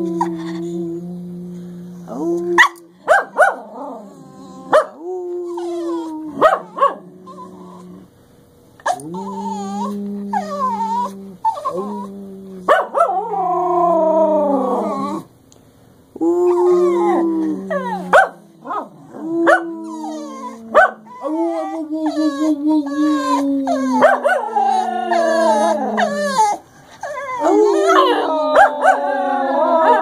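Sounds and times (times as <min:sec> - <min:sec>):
dogs howling: 0:02.1 - 0:08.1, 0:08.8 - 0:15.3, 0:16.2 - 0:30.0.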